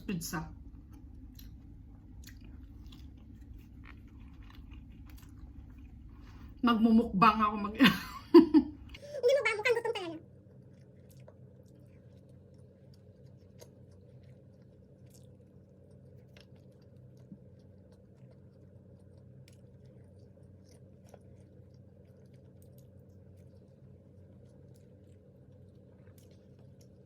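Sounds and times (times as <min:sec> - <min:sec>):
steady low hum: 0:00.0 - 0:27.0
chewing and crunching: 0:00.7 - 0:06.6, 0:10.2 - 0:27.0.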